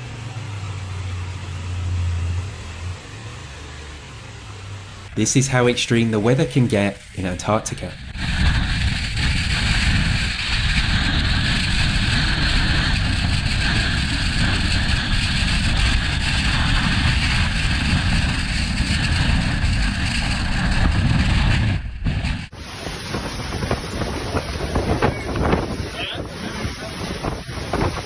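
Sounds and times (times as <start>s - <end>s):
strong storm wind blowing: 5.1s - 28.0s
wind buffeting on microphone: 5.1s - 28.0s.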